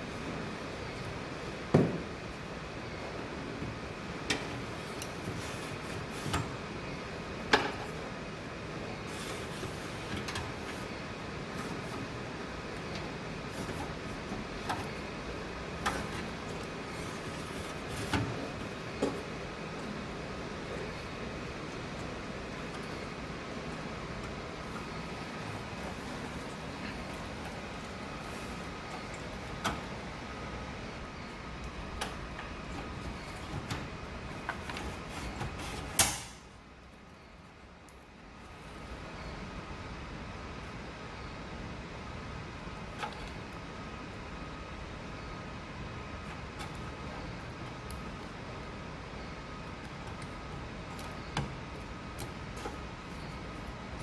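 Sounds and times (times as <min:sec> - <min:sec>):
steady hiss and low hum: 0:00.0 - 0:54.0.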